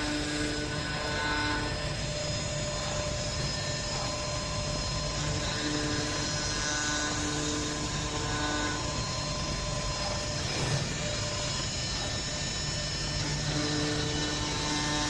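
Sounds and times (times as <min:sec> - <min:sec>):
machine whining tones: 0:00.0 - 0:15.0
wood router running: 0:00.0 - 0:15.0.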